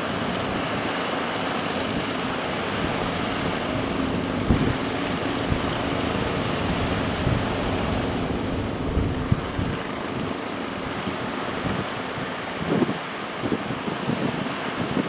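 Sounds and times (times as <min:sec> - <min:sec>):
boat engine drone: 0:00.0 - 0:15.0
breaking surf: 0:00.0 - 0:15.0
wind buffeting microphone: 0:00.0 - 0:15.0.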